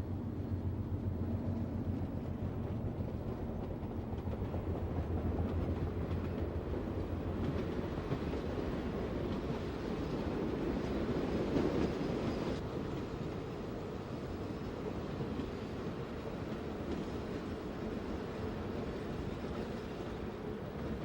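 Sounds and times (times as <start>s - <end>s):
rumble of rolling train cars: 0.0s - 21.0s.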